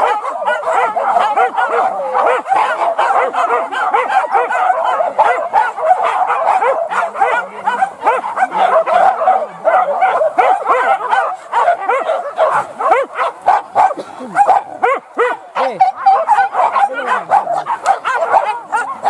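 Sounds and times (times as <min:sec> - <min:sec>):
dogs yelping and whining: 0:00.0 - 0:19.0.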